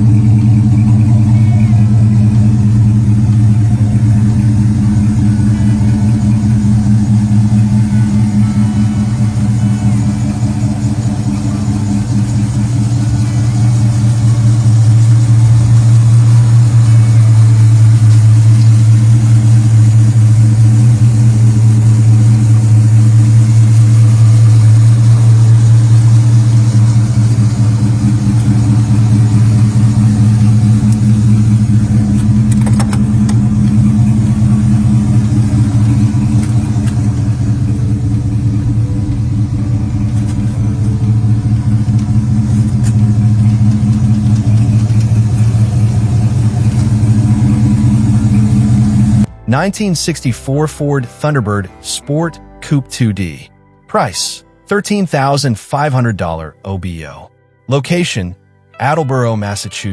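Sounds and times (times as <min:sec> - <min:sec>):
car engine idling: 0:00.0 - 0:54.4.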